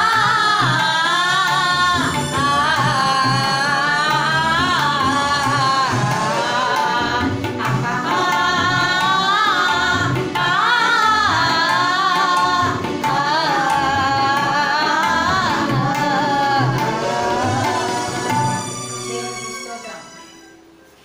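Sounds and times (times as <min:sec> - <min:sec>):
man and woman singing: 0:00.0 - 0:19.4
percussion beat: 0:00.0 - 0:20.4.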